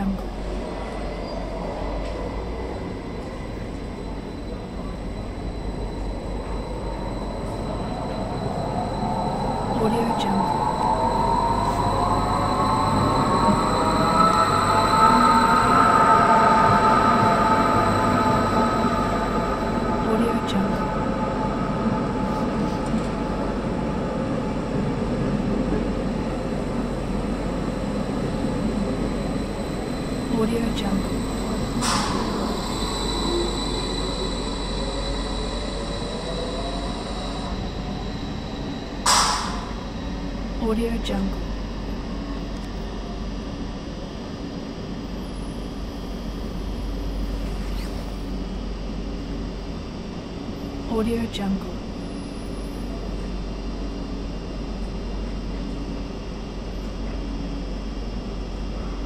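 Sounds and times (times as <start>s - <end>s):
faint whine: 0.0s - 59.0s
metro train rumbling: 0.0s - 59.0s.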